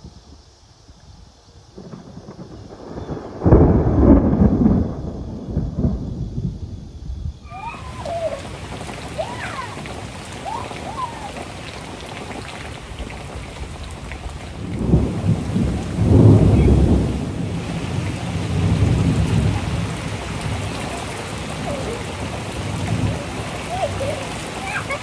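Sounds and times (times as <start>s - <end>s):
rain falling: 1.6s - 25.0s
thunder rumble: 1.7s - 25.0s.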